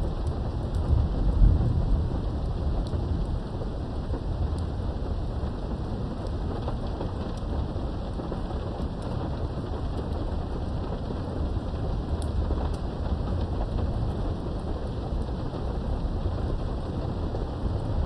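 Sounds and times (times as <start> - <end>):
low rumble of thunder: 0.0 - 18.0
rain behind a window: 0.0 - 18.0
raindrop ticks: 0.0 - 18.0.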